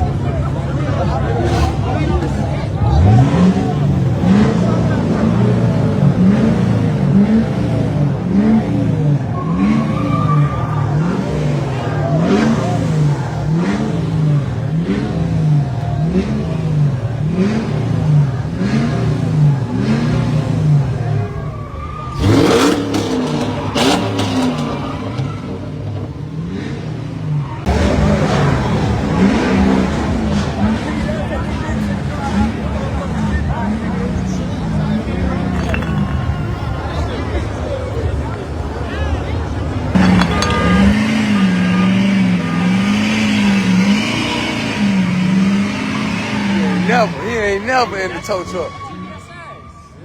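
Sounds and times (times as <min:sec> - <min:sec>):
car engine revving: 0:00.0 - 0:49.2
engine crackles: 0:00.0 - 0:49.2.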